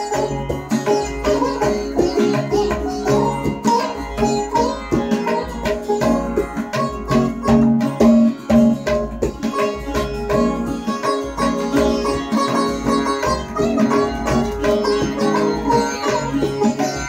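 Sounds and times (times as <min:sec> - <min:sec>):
acoustic guitar strumming: 0:00.0 - 0:17.0
sitar melody: 0:00.0 - 0:17.0
tabla drumming: 0:00.0 - 0:17.0.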